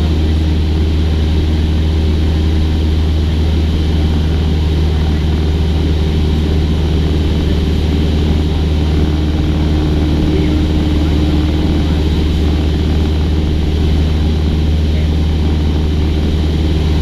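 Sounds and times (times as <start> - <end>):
airplane engine and propeller drone: 0.0 - 17.0.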